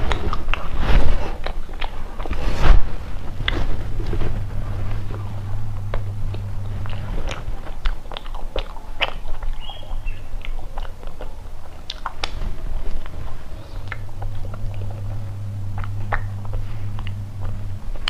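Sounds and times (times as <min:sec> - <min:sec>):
chewing with wet mouth clicks: 0:00.0 - 0:18.0
steady low hum: 0:00.0 - 0:18.0.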